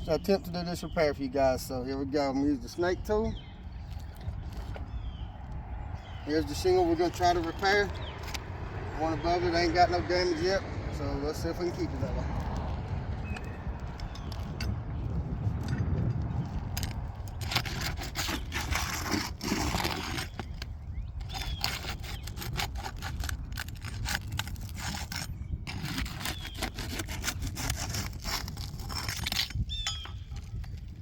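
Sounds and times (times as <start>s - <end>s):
tool scraping under shingles: 0.0s - 5.2s, 6.0s - 31.0s.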